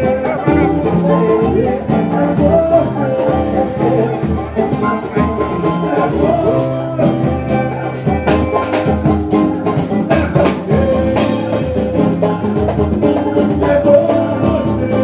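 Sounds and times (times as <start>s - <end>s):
samba drums and percussion: 0.0s - 15.0s.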